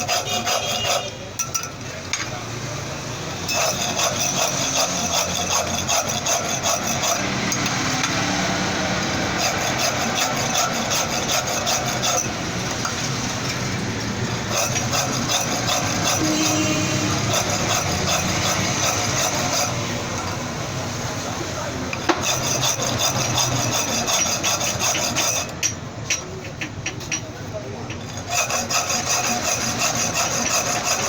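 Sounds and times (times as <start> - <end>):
metal being filed by hand: 0.0 - 2.4, 3.3 - 27.2, 27.9 - 31.0.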